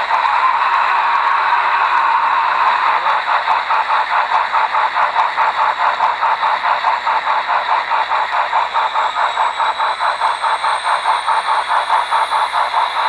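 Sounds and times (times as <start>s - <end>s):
model train rhythmic beat: 0.0s - 13.0s.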